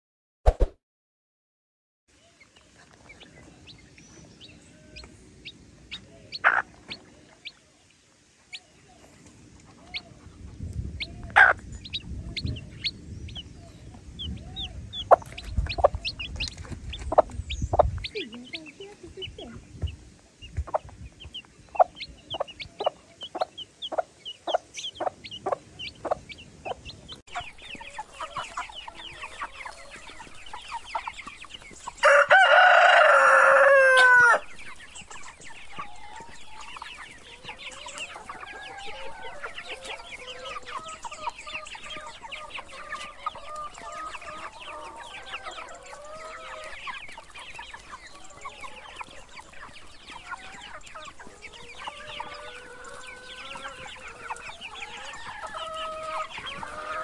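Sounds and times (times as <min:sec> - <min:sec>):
chicks peeping: 0:02.1 - 0:57.0
hen clucking: 0:02.6 - 0:07.7, 0:08.4 - 0:57.0.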